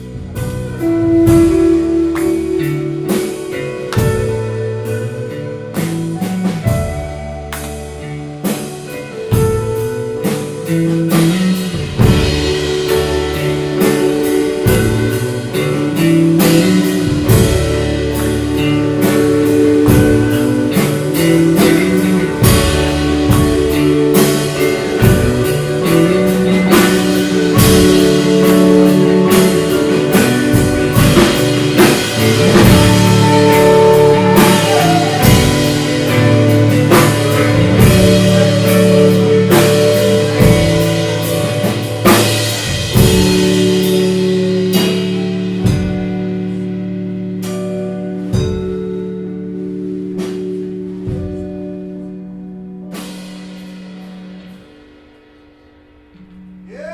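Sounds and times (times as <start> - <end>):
drum kit beat: 0.0 - 56.9
electric guitar: 0.0 - 56.9
rock band playing: 0.0 - 56.9.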